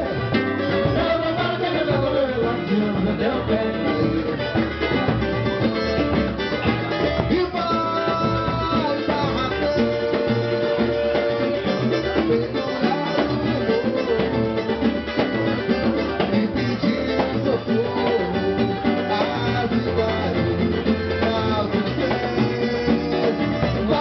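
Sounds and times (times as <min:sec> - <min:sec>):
percussion groove: 0:00.0 - 0:24.0
plucked strings: 0:00.0 - 0:24.0.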